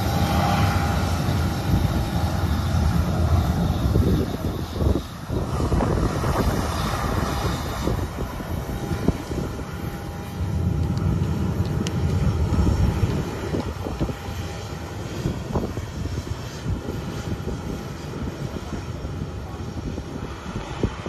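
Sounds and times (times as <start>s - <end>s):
faint high jet whine: 0.0s - 21.0s
jet engines rumbling: 0.0s - 21.0s.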